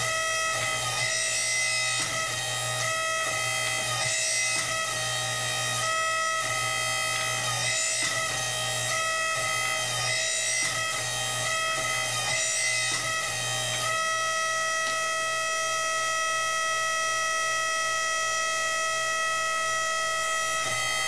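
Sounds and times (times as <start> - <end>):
hydraulic pump whining: 0.0 - 21.0.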